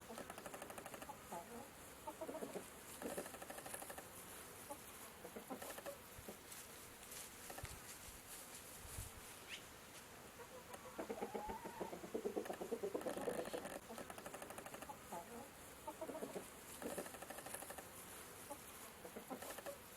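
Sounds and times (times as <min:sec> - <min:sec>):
chickens clucking: 0:00.0 - 0:06.5, 0:10.3 - 0:19.9.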